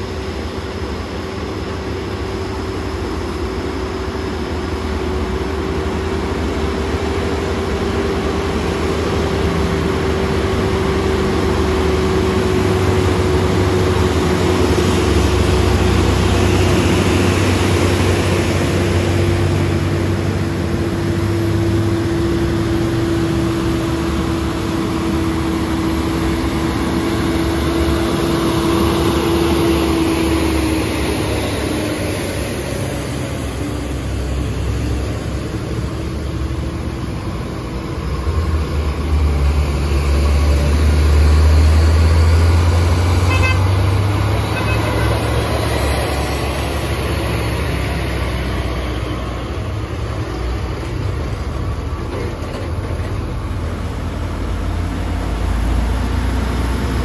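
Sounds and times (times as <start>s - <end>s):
diesel trucks passing: 0.0s - 57.0s.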